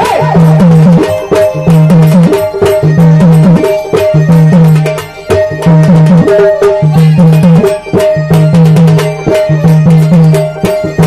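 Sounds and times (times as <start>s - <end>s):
hand drums playing: 0.0s - 11.0s
sharp metallic strikes: 0.0s - 11.0s.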